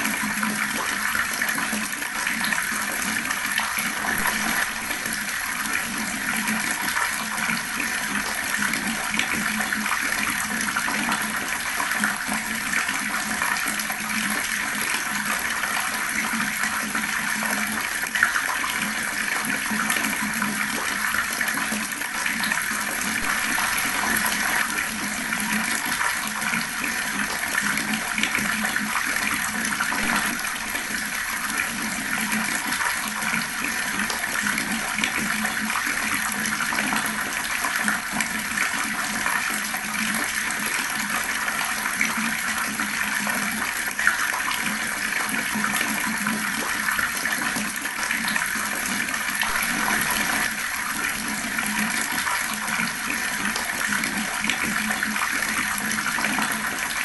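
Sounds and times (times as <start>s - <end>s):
water running fast: 0.0s - 57.0s.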